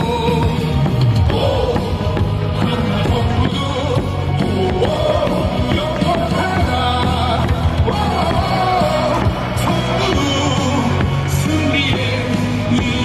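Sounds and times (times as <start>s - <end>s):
cheering song with beat and bass: 0.0s - 13.0s.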